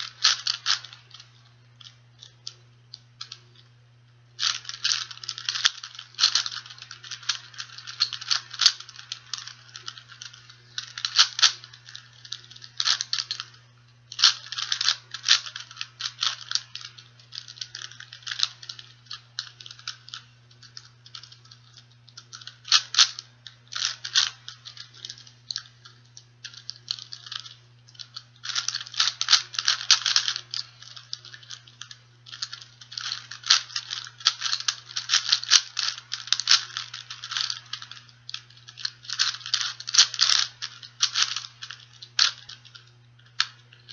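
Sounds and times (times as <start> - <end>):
plastic puzzle cube clicking: 0.0 - 3.7, 4.4 - 43.9
low steady hum: 0.0 - 43.9.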